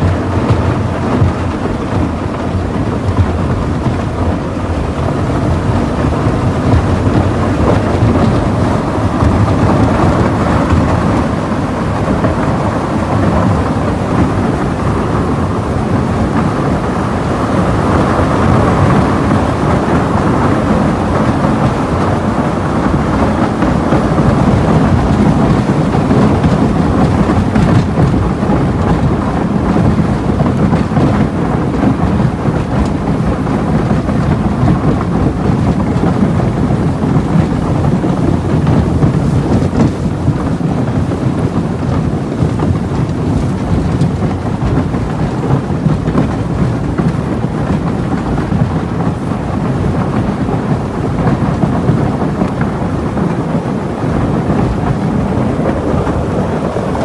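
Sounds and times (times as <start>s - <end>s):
boat engine rumble: 0.0s - 57.0s.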